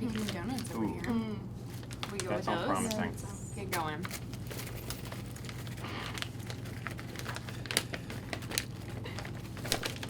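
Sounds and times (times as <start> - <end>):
packaging crinkling: 0.0 - 3.0, 3.8 - 10.0.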